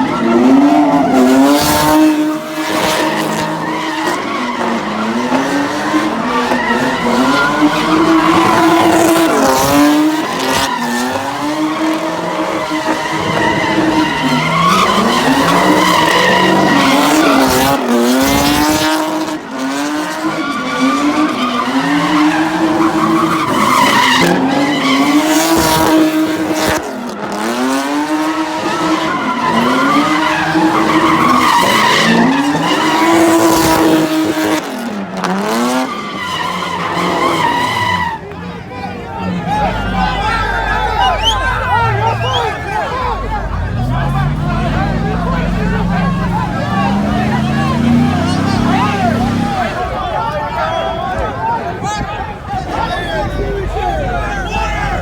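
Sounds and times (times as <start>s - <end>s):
tyres screeching: 0.0s - 26.4s, 28.0s - 55.0s
car engine revving: 0.0s - 50.8s.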